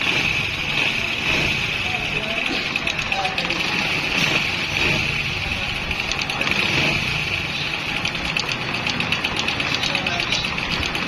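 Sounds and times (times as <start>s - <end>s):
motorcycle engine idling: 0.0s - 11.0s
timing chain ticking rattle: 0.0s - 11.0s.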